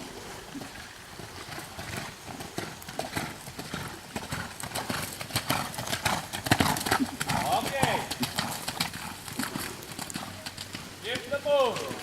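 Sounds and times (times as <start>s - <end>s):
horse hoofbeats on arena footing: 1.1s - 12.0s.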